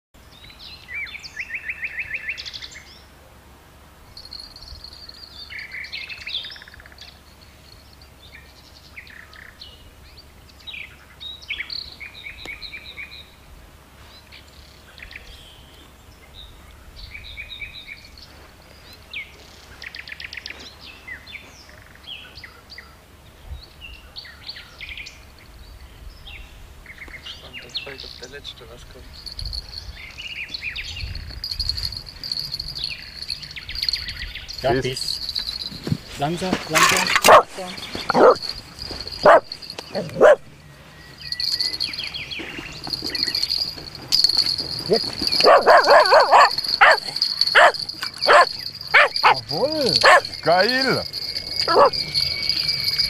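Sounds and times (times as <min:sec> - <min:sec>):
songbirds singing and chirping: 0:00.2 - 0:03.2, 0:04.2 - 0:53.0.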